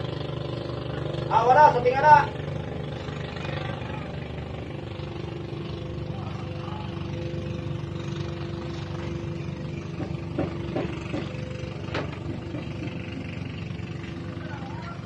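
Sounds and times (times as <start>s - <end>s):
motor running with low rumble: 0.0s - 15.0s.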